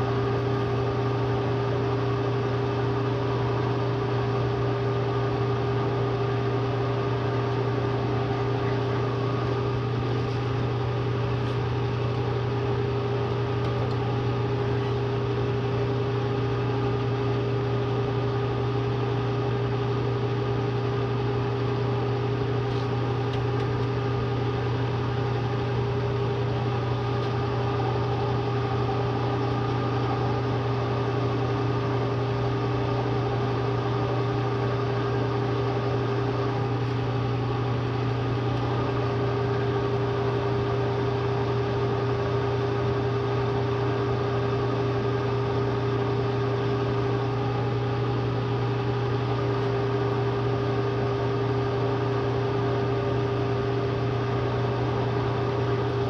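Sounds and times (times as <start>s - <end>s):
milling machine motor hum: 0.0s - 56.0s.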